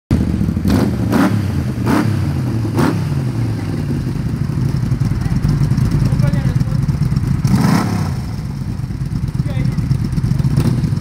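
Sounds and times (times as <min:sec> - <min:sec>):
motorcycle engine idling: 0:00.1 - 0:11.0
motorcycle engine revving: 0:00.1 - 0:11.0.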